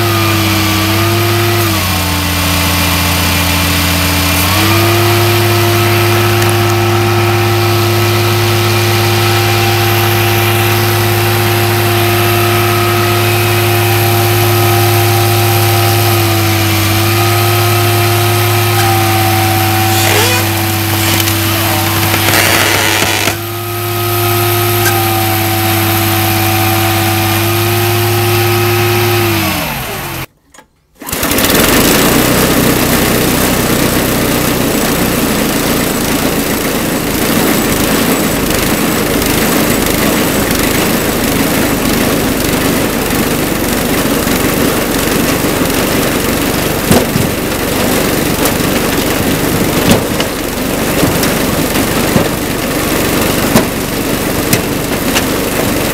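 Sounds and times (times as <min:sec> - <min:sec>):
small engine running: 0:00.0 - 0:30.3, 0:31.0 - 0:55.9.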